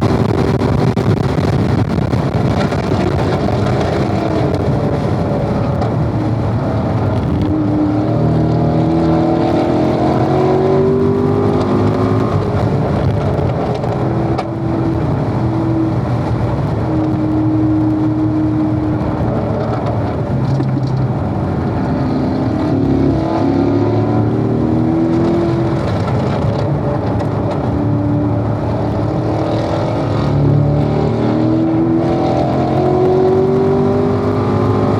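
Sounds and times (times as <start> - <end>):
car engine revving: 0.0 - 34.9
road and wind noise: 0.0 - 34.9.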